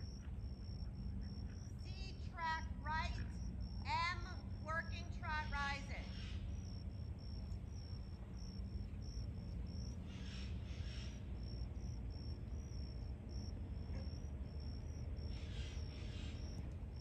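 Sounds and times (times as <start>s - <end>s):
insect chirping: 0.0s - 17.0s
low steady rumble: 0.0s - 17.0s.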